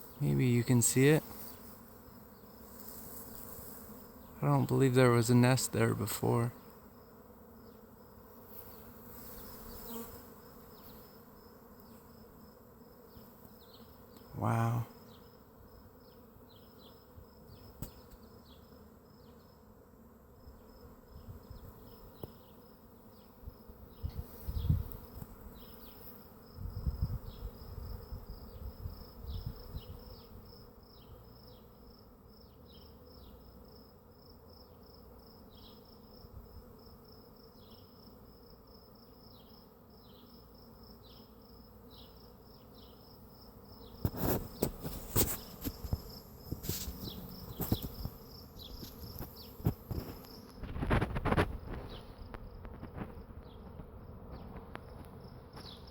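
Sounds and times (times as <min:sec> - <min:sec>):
bee swarm buzzing: 0:00.0 - 0:55.9.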